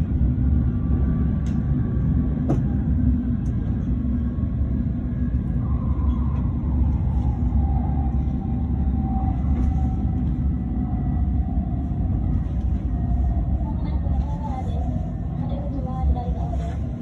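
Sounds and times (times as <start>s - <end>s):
train cabin rumble: 0.0s - 7.5s, 8.3s - 17.0s.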